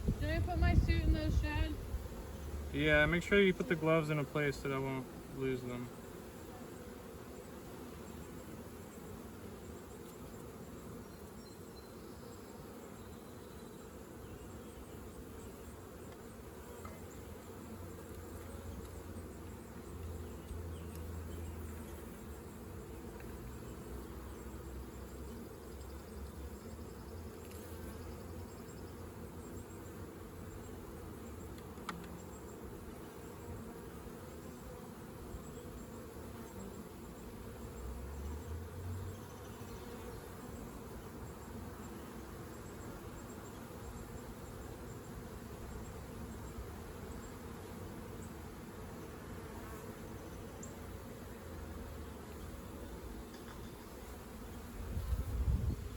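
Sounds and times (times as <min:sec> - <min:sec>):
honeybees buzzing: 0:00.0 - 0:55.9.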